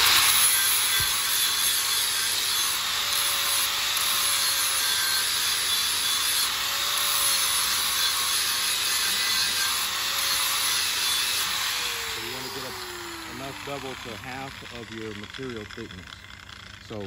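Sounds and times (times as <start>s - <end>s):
angle grinder grinding steel: 0.0s - 17.0s.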